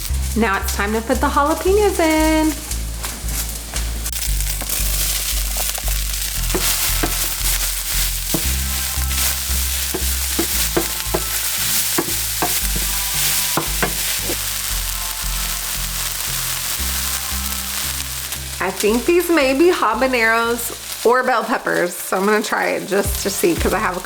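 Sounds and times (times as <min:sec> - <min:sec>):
background music with bass line: 0:00.0 - 0:21.0, 0:23.1 - 0:24.0
peppers sizzling in a frying pan: 0:00.0 - 0:24.0.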